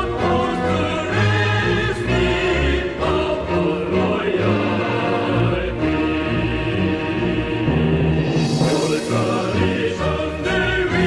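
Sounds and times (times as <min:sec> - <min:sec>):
choir singing: 0:00.0 - 0:11.0
orchestra playing: 0:00.0 - 0:11.0.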